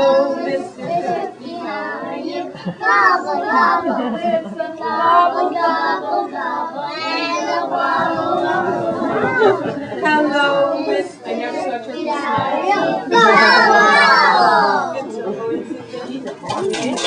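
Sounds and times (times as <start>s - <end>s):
children singing together: 0.0s - 15.1s.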